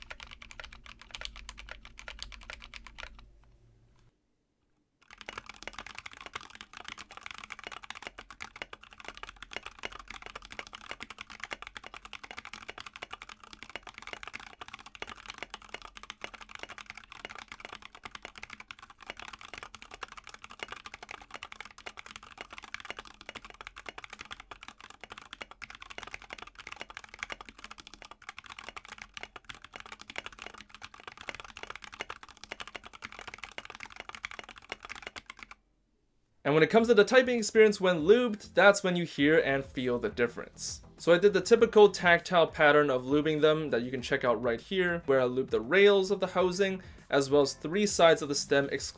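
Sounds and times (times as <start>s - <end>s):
fast typing on mechanical keyboard: 0.0s - 3.4s, 5.0s - 35.6s, 40.8s - 48.9s.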